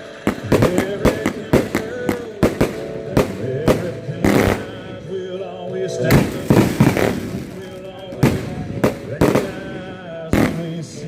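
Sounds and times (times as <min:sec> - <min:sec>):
fireworks bursting: 0:00.0 - 0:05.2, 0:05.9 - 0:11.0
background music: 0:00.0 - 0:11.0.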